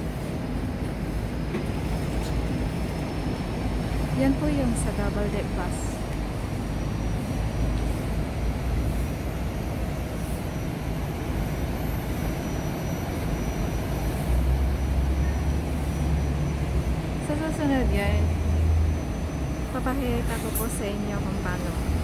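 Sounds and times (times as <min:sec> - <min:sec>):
bus diesel engine running: 0:00.0 - 0:22.0
faint high whine: 0:00.0 - 0:22.0
street traffic: 0:00.0 - 0:22.0.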